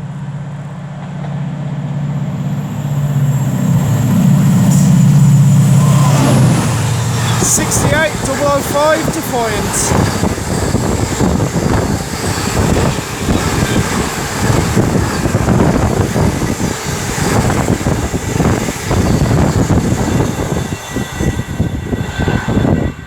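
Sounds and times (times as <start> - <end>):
diesel locomotive engine: 0.0 - 23.0
train wheels on rails: 0.0 - 23.0.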